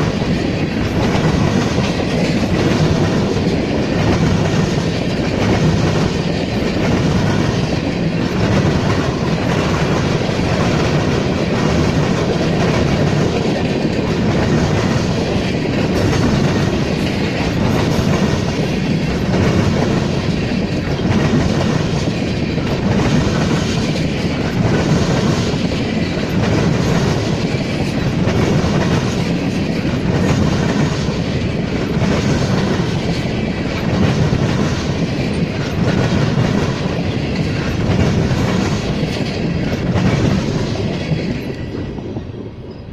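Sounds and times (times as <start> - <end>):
freight train wheels clacking: 0.0 - 42.9
train rumble: 0.0 - 42.9.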